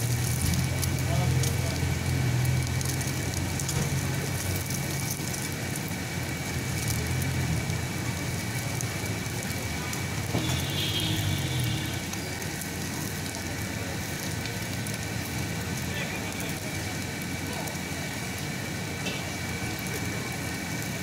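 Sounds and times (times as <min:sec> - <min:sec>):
flatbread sizzling in oil: 0:00.0 - 0:21.0.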